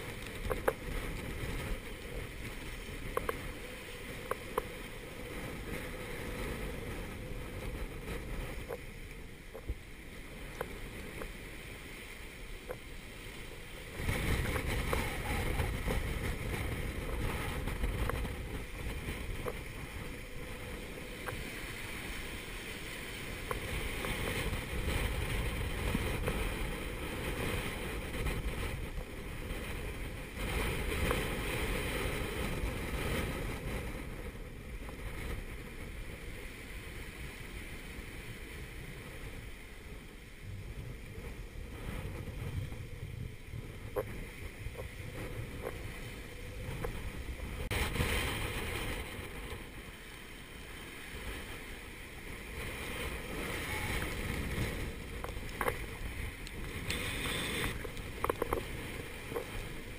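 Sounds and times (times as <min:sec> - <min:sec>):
waves breaking: 0:00.0 - 0:59.9
wind buffeting microphone: 0:00.0 - 0:59.9.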